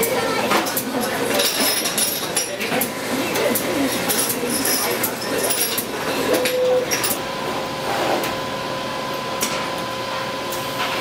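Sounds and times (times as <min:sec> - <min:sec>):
workshop machine hum with whine: 0:00.0 - 0:11.0.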